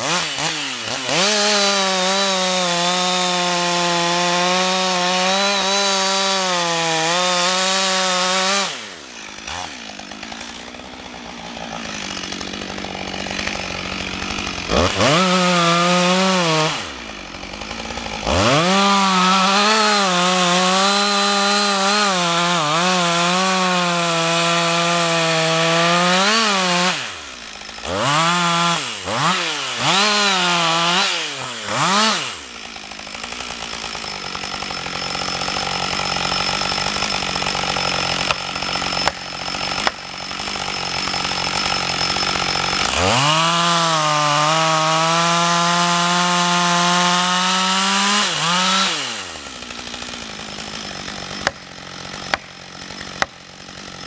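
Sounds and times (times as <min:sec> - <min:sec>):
chainsaw cutting wood: 0:00.0 - 0:54.0
chainsaw idling: 0:00.0 - 0:54.0.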